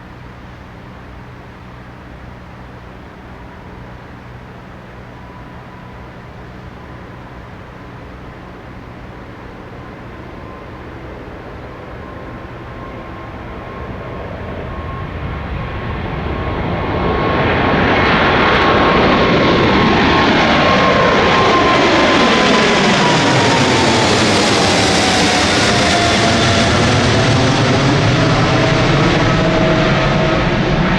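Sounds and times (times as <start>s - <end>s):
jet engines at take-off: 0.0s - 30.9s.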